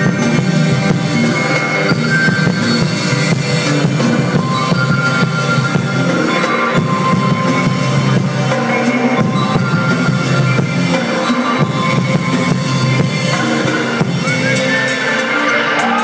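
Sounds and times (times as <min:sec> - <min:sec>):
live band playing electronic music: 0:00.0 - 0:16.0
steady drum beat: 0:00.0 - 0:16.0.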